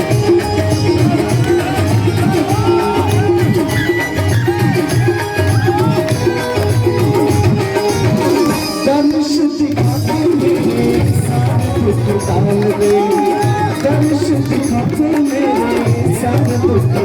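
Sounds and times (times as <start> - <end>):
hand drums: 0.0 - 17.0.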